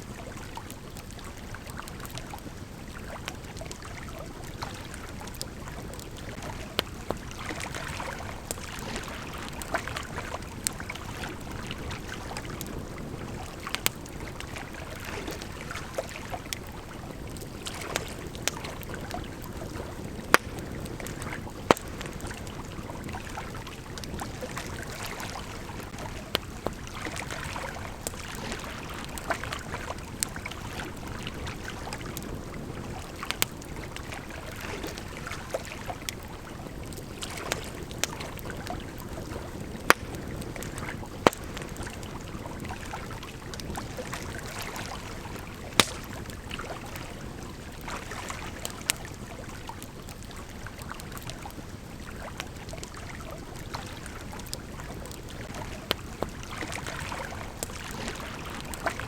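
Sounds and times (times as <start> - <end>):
campfire crackling and popping: 0.0 - 59.0
river flowing: 0.0 - 59.0.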